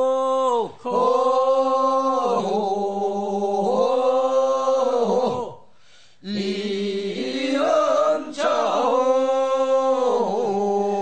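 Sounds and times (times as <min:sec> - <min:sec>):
voices singing a funeral song: 0:00.0 - 0:11.0.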